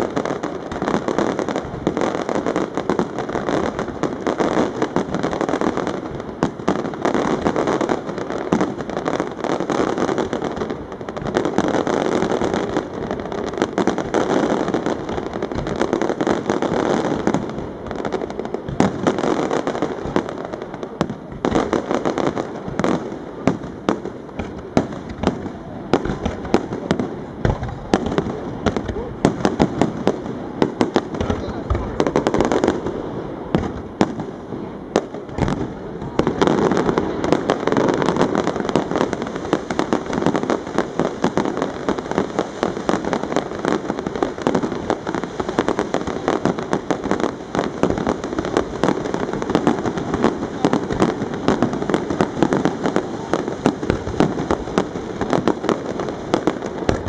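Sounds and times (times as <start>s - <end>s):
fireworks bursting and crackling: 0.0s - 57.0s
sharp firework bangs: 0.0s - 57.0s.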